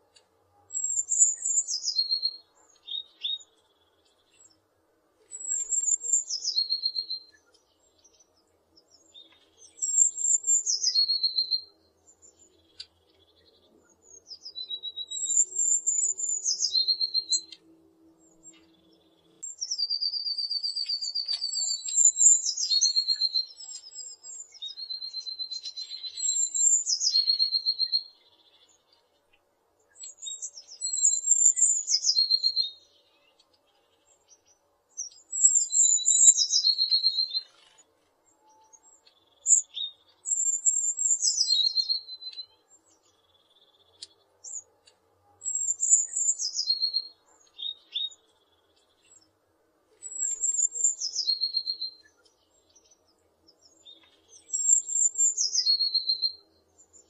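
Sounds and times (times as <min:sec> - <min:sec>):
bird singing with fast trill: 0:00.7 - 0:04.6, 0:05.3 - 0:49.4, 0:50.0 - 0:57.0.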